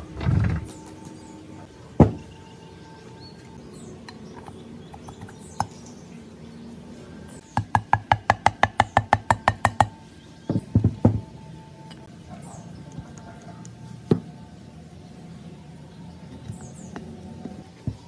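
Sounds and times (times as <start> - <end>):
soft background music: 0.0 - 18.0.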